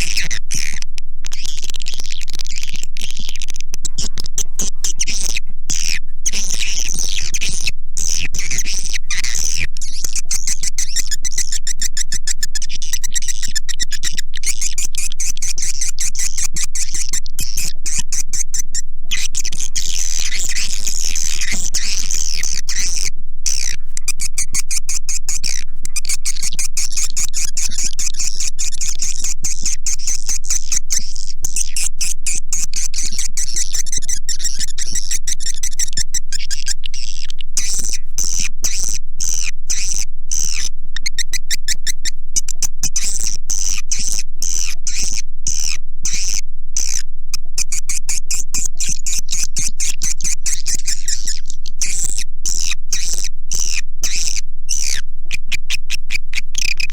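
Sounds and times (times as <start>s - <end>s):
swiftlets twittering: 0.0s - 47.0s
steady low hum: 0.0s - 56.9s.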